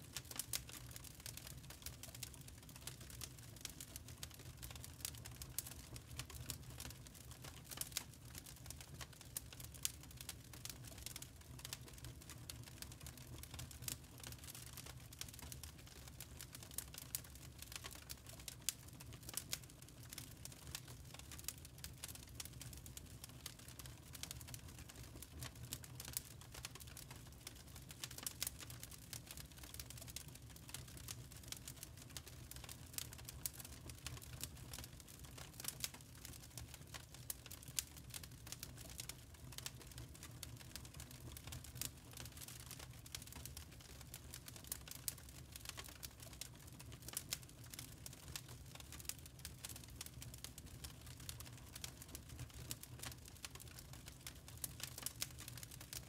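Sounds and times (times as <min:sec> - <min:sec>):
charcoal embers crackling: 0:00.1 - 0:56.0.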